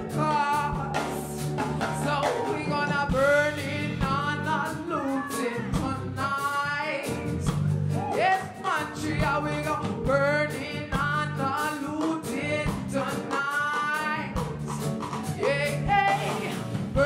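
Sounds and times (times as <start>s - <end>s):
woman singing through pa: 0.0s - 14.5s, 15.2s - 17.0s
drum kit: 0.0s - 17.0s
electric bass: 0.0s - 17.0s
keyboard: 0.0s - 17.0s.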